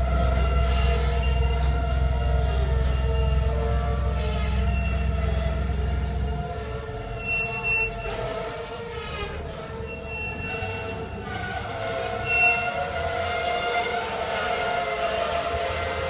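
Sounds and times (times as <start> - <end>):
freight wagon wheels squealing: 0.0 - 16.0.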